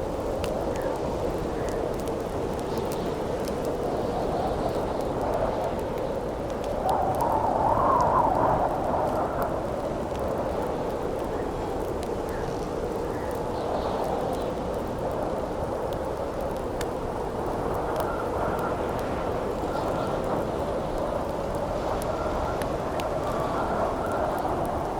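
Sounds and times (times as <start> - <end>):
campfire crackling: 0.0 - 24.9
howling wind: 0.0 - 24.9.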